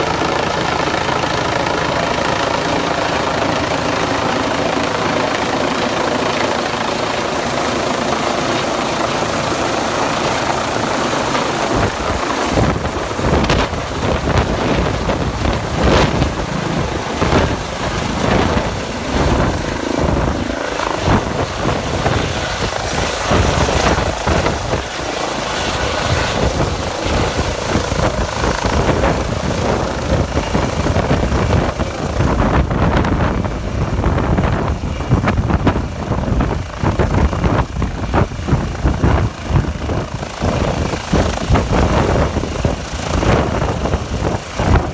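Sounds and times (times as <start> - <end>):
helicopter rotor and turbine: 0.0 - 44.9.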